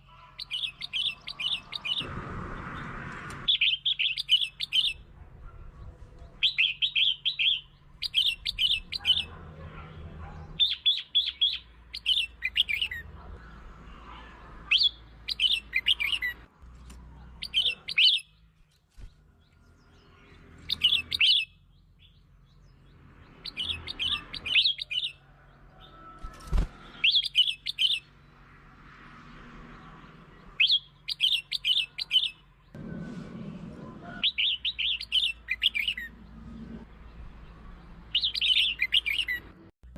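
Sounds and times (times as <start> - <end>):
songbird singing: 0.0 - 33.0, 34.0 - 39.7.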